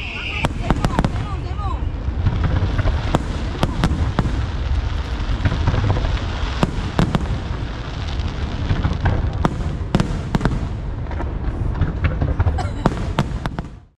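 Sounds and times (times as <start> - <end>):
fireworks bursting: 0.0 - 13.9
sharp firework cracks: 0.0 - 13.9.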